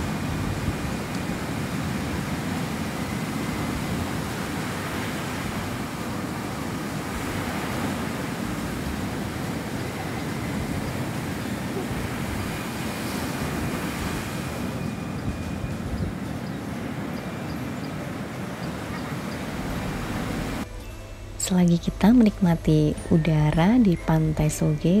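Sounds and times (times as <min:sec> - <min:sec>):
waves breaking on beach: 0:00.0 - 0:20.7.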